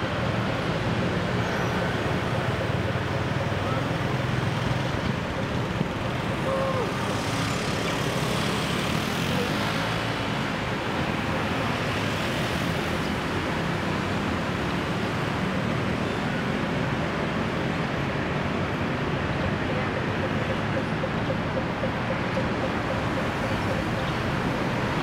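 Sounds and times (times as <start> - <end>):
city traffic: 0.0 - 25.0.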